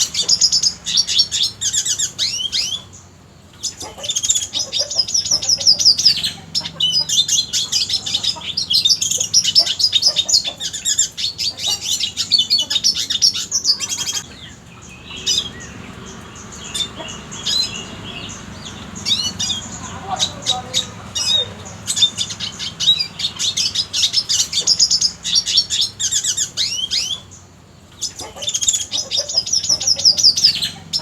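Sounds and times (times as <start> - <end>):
bird twittering song: 0.0 - 31.0.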